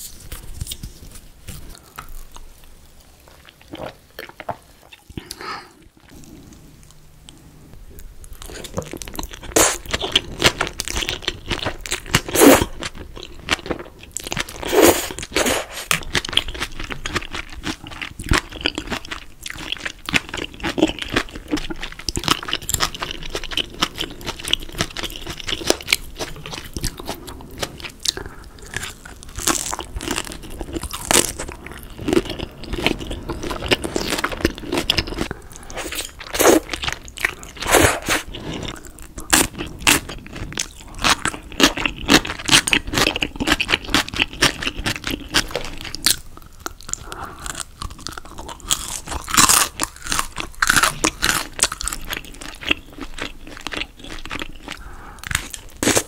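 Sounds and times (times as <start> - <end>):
chewing crispy fried food: 8.2 - 56.0.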